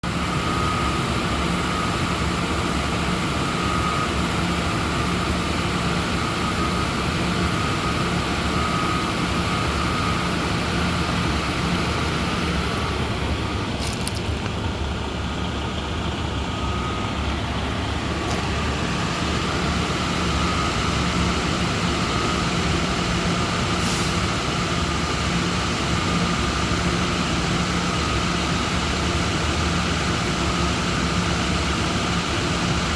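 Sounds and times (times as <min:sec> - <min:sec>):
car engine idling: 0:00.0 - 0:32.9.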